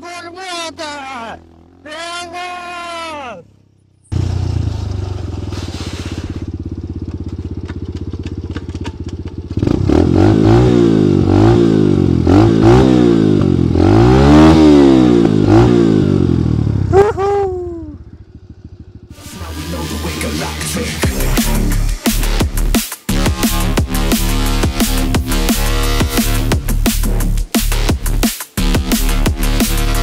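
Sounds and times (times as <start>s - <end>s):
motorbike engine idling and revving: 0.0s - 2.7s, 3.4s - 30.0s.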